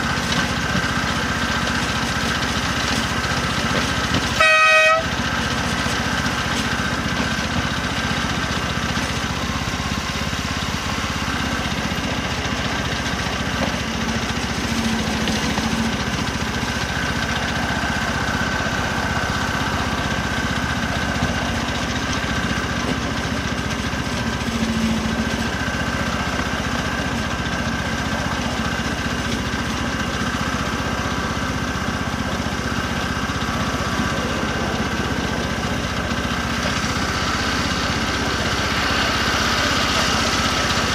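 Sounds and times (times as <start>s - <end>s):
miniature locomotive engine running: 0.0s - 40.9s.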